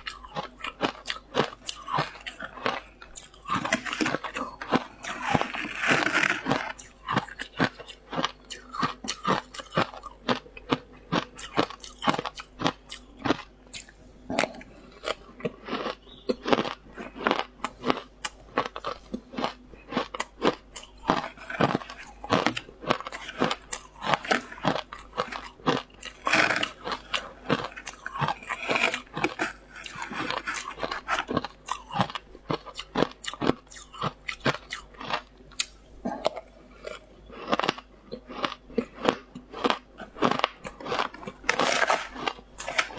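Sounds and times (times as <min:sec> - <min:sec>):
ice crunching being chewed: 0:00.0 - 0:42.9.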